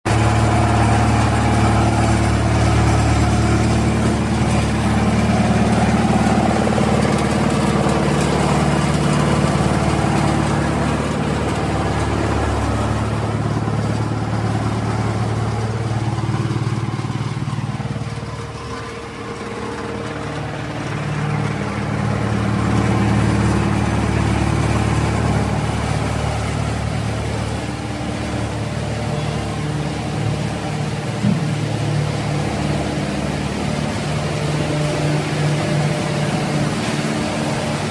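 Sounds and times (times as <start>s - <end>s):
wood chipping machinery humming: 0.1s - 37.9s.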